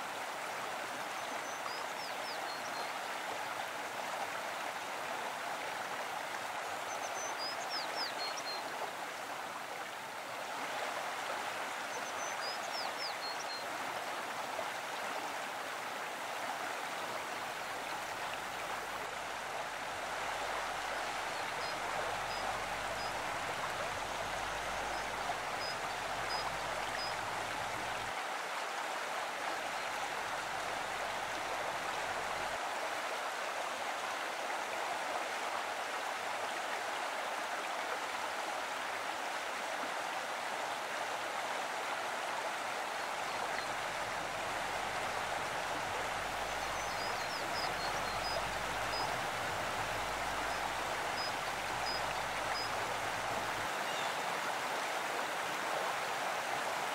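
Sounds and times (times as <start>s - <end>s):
stream running over rocks: 0.0s - 56.9s.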